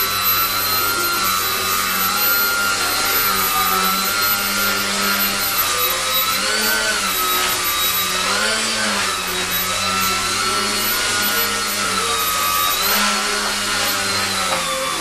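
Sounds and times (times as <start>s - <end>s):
rc helicopter motor whine: 0.0s - 15.0s
rotor noise: 0.0s - 15.0s.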